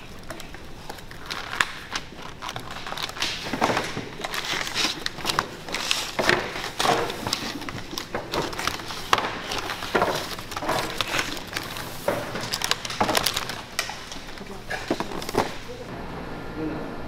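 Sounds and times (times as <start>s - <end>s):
plastic cases clicking and clattering: 0.0s - 15.8s.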